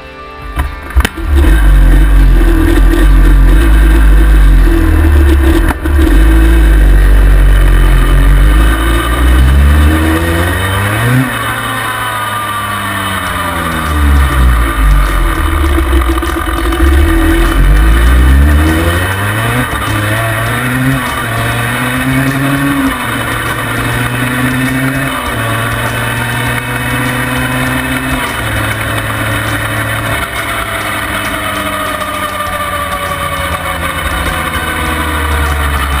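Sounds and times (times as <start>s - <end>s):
wind and road noise: 0.4s - 36.0s
two-stroke engine revving: 1.0s - 36.0s.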